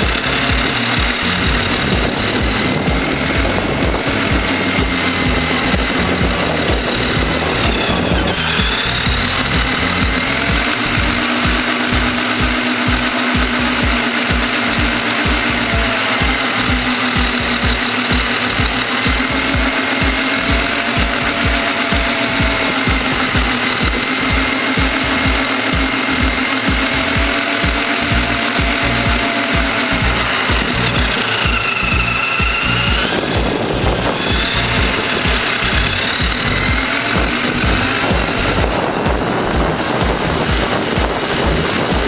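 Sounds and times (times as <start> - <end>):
electric motor whining and rattling: 0.0 - 42.0.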